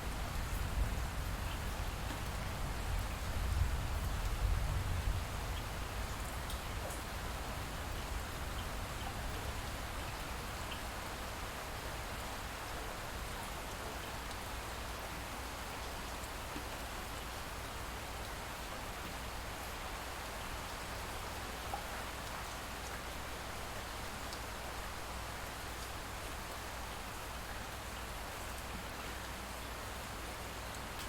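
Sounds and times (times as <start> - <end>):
light rain falling: 0.0 - 31.0
faint raindrop ticks: 0.3 - 4.6, 5.5 - 7.2, 7.9 - 11.2, 11.8 - 29.4.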